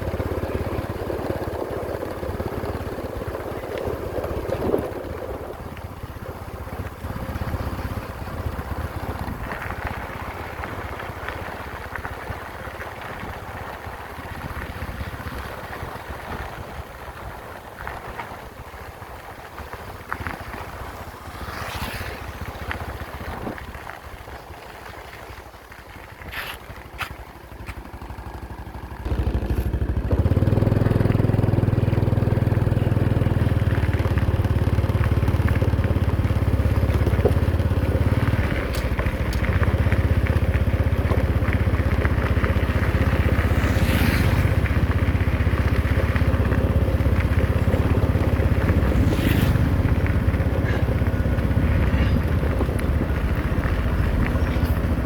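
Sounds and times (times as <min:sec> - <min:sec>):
construction machinery engines: 0:00.0 - 0:55.0.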